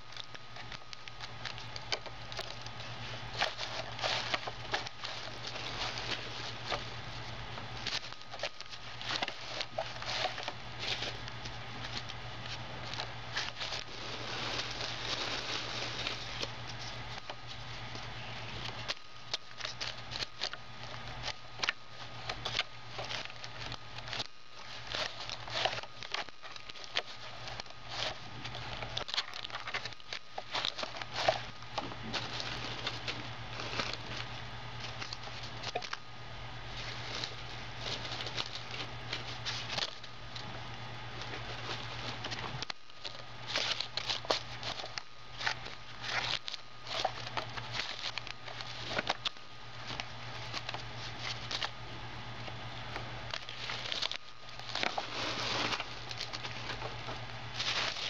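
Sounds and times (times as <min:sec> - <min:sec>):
paper and plastic crinkling: 0:00.0 - 0:51.8, 0:52.4 - 0:58.0.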